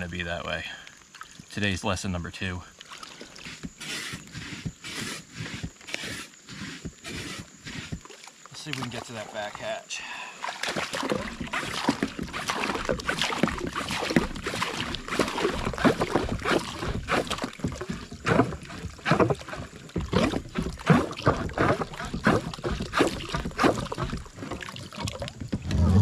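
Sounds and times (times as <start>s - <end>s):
water splashing and sloshing: 0.0s - 26.0s
knocks and rustling on kayak: 3.1s - 9.3s, 10.6s - 26.0s.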